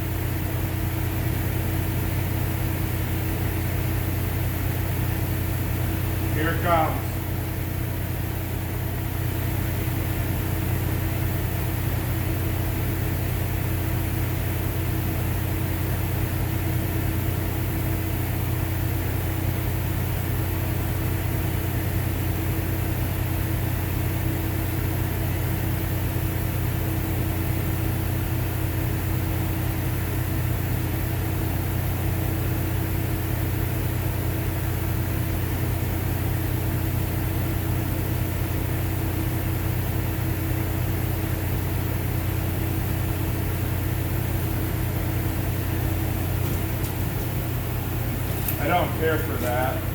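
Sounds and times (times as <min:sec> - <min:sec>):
low machine hum with high tone: 0:00.0 - 0:49.9.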